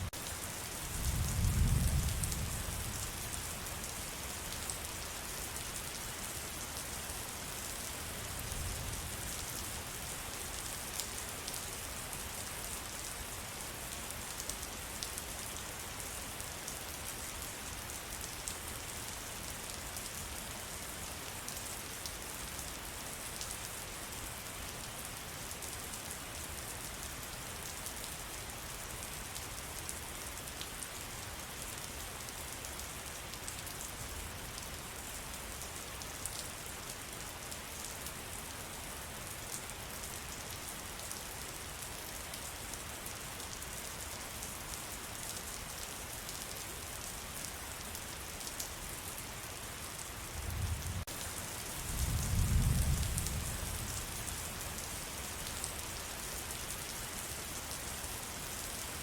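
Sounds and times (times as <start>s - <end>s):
rain hissing in forest: 0.0s - 59.0s.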